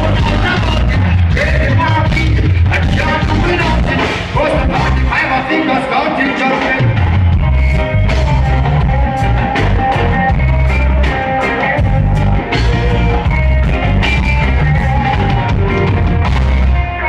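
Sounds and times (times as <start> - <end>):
electric guitars: 0.0 - 17.0
heavy bass line: 0.0 - 17.0
reggae band playing: 0.0 - 17.0.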